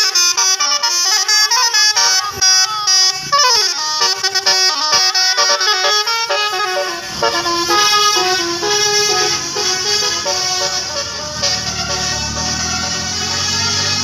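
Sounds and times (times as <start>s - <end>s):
bus engine rumble: 0.0s - 14.0s
bus horn playing a tune: 0.0s - 14.0s.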